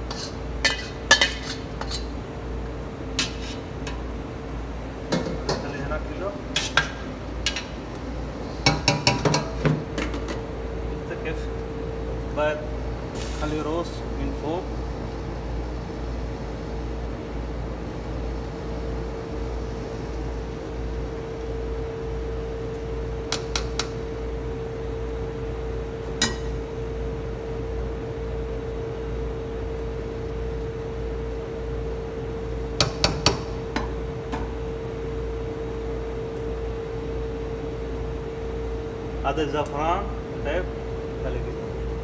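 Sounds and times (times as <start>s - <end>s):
steady hum: 0.0s - 42.0s.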